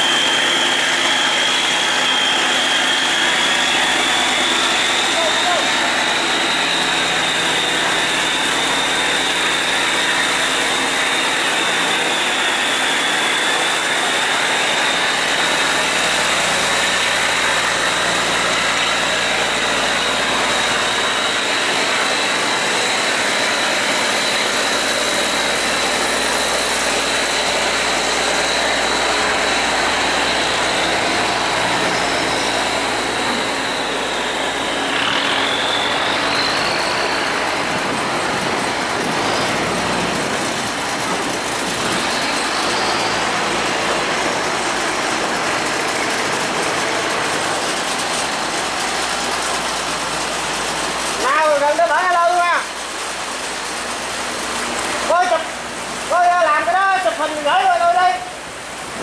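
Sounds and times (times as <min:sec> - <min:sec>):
diesel engine running: 0:00.0 - 0:56.8
high-pitched whine: 0:00.0 - 0:59.0.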